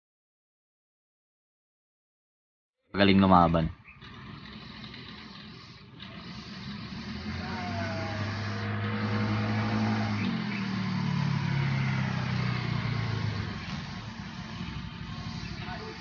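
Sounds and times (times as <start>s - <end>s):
vehicle engine humming: 3.0s - 16.0s.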